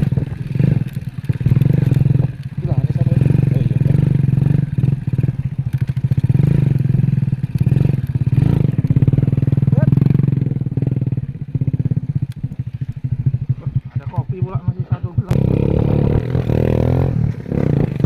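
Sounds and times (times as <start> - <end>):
excavator diesel engine throbbing: 0.0 - 18.0.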